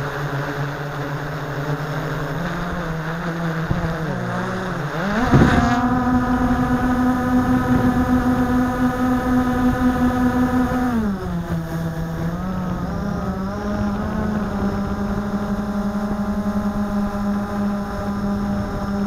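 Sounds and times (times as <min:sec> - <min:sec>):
drone motors and propellers humming: 0:00.0 - 0:19.0.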